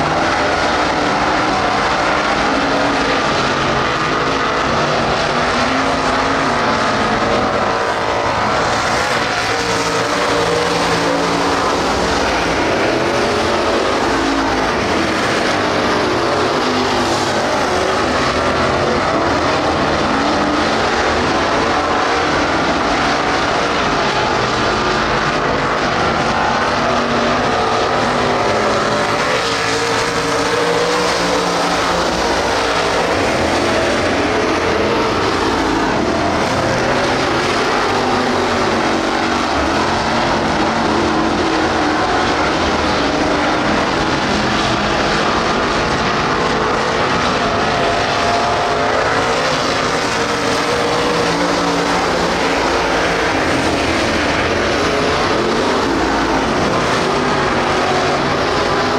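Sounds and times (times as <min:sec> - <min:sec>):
race car engines droning: 0:00.0 - 0:58.9.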